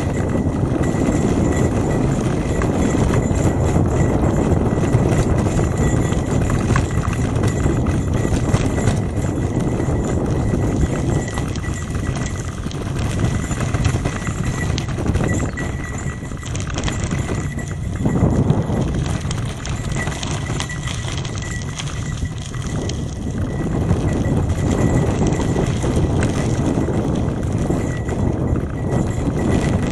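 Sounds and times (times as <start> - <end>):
bicycle frame rattling: 0.0 - 29.9.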